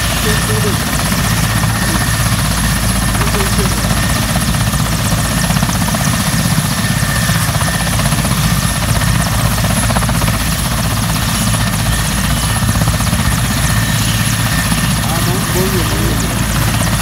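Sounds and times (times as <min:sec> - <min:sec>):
heavy helicopter rotor beat: 0:00.0 - 0:17.0
high turbine whine: 0:00.0 - 0:17.0.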